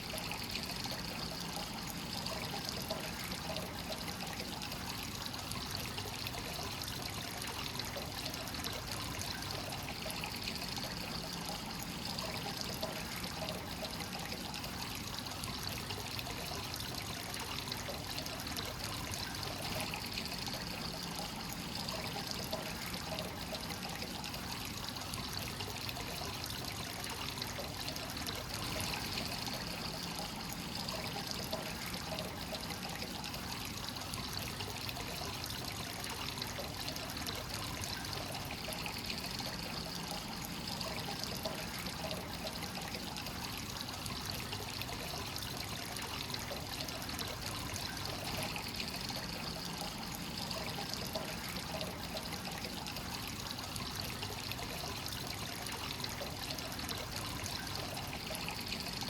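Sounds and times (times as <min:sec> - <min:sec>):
water pouring into a bath: 0:00.0 - 0:59.0.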